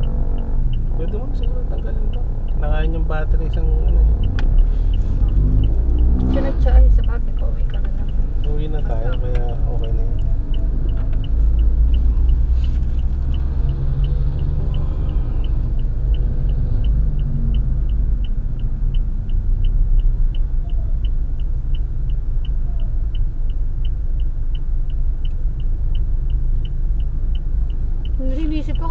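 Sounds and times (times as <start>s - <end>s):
car engine idling: 0.0s - 28.9s
light even ticking: 0.0s - 28.9s.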